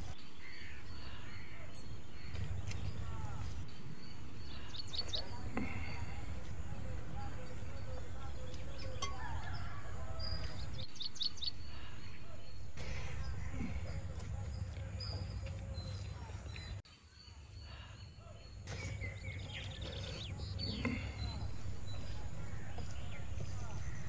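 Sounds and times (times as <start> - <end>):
low background rumble: 0.0 - 16.8, 20.5 - 24.0
birds chirping: 0.0 - 24.0.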